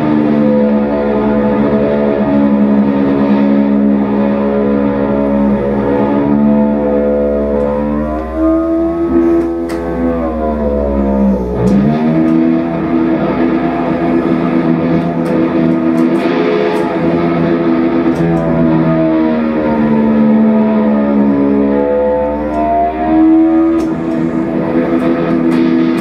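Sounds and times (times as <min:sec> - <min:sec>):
electric guitar through effects: 0:00.0 - 0:26.0
low drone: 0:00.0 - 0:26.0.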